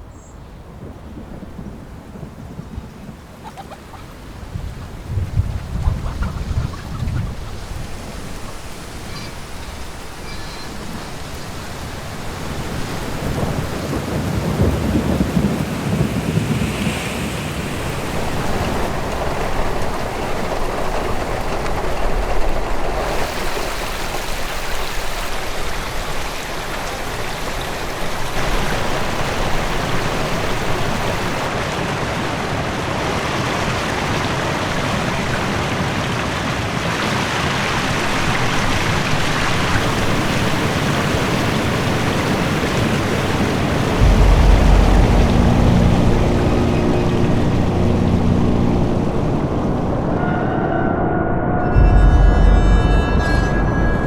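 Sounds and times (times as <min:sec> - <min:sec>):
rolling thunder rumbles: 0:00.0 - 0:35.2, 0:37.8 - 0:54.0
steady rain: 0:00.0 - 0:50.3.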